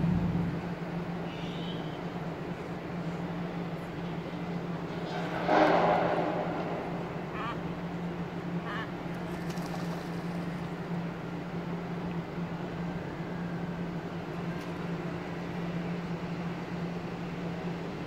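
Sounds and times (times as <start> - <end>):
low mechanical drone: 0.0 - 18.0.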